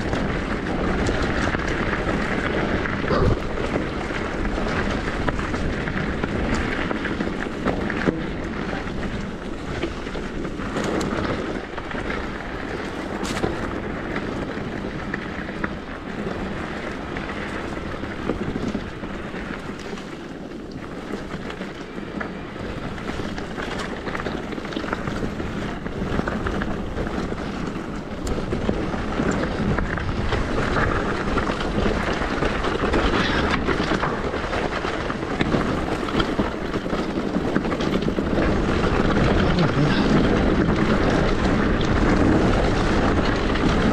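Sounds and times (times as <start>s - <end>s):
bike clicks and rattles: 0.0s - 43.9s
tyres rolling over rough ground: 0.0s - 43.9s
wind rushing over microphone: 0.0s - 43.9s.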